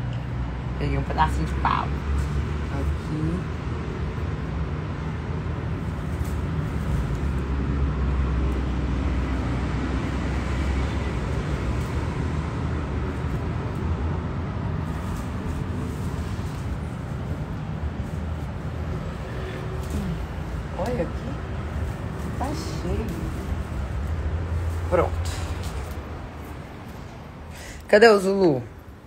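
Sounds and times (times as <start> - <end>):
low rumble of city traffic: 0.0 - 29.0
leaves rustling: 1.5 - 28.4.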